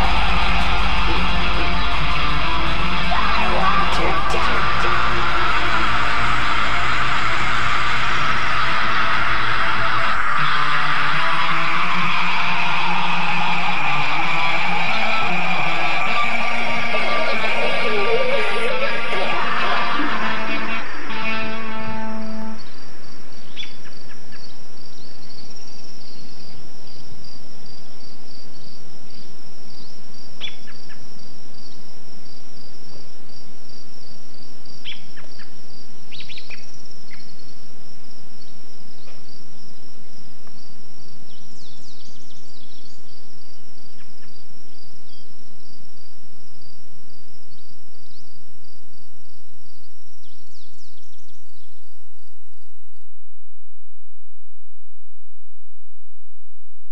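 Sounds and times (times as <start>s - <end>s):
constant hiss: 0.0s - 50.3s
crickets chirping: 0.0s - 53.4s.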